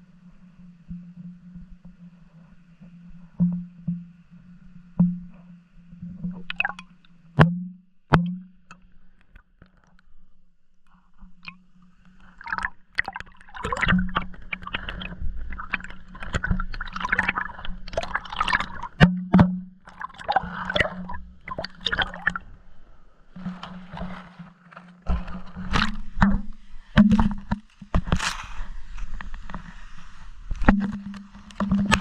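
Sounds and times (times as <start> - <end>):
water gurgling and sloshing: 0.0 - 32.0.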